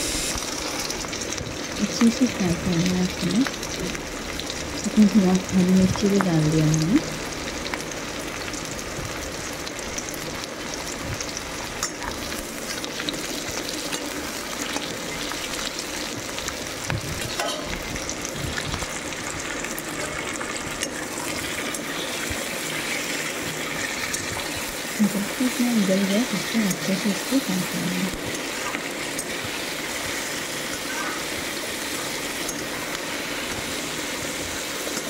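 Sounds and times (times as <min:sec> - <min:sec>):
onions sizzling in hot oil: 0:00.0 - 0:35.0.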